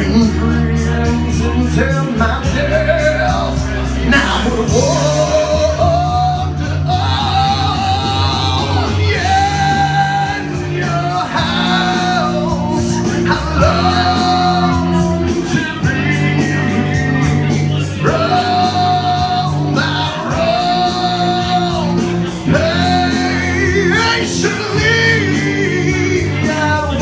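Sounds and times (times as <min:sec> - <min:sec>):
loud backing music: 0:00.0 - 0:27.0
man singing into a microphone: 0:00.0 - 0:27.0.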